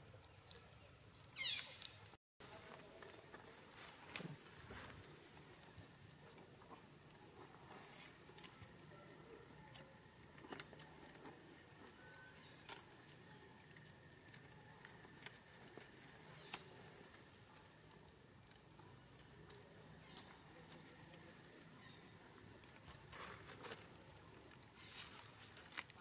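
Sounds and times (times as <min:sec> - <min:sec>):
dry husks rustling and crackling: 0:00.0 - 0:26.0.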